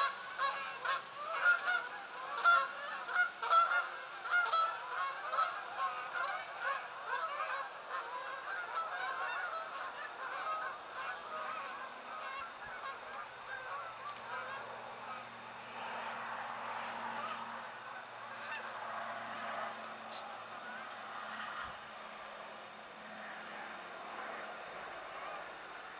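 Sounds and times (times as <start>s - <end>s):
geese honking: 0.0s - 21.8s.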